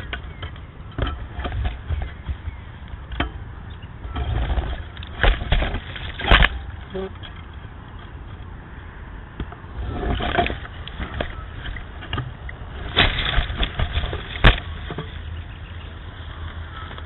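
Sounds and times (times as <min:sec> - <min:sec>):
frame scraping against branches: 0:00.0 - 0:08.6, 0:09.6 - 0:17.0.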